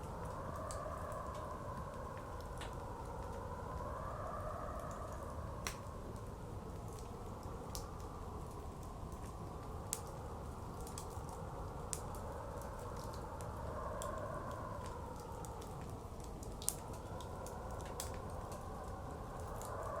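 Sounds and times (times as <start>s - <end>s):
blizzard wind: 0.0s - 20.0s
wood fire crackling and popping: 0.0s - 20.0s.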